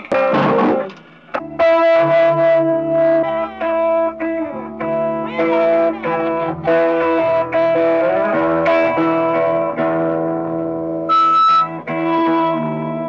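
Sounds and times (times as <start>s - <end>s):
distorted electric guitar tuning: 0.0s - 13.0s.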